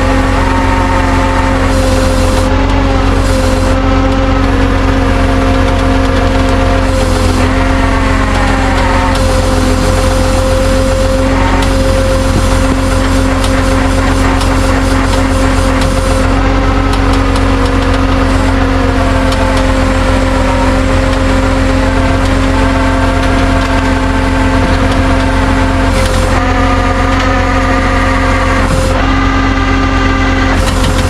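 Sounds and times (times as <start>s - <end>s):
motor vehicle engine droning: 0.0s - 31.0s
shifting steady tones: 0.0s - 31.0s.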